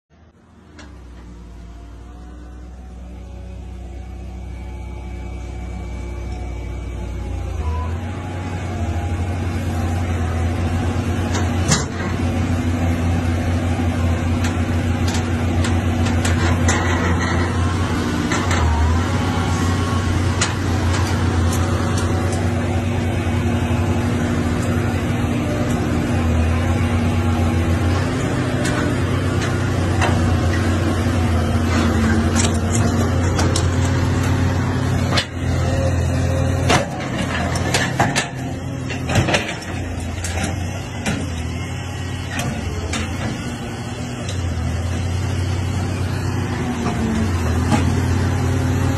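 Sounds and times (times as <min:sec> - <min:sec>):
excavator diesel engine running: 0:00.2 - 0:48.9.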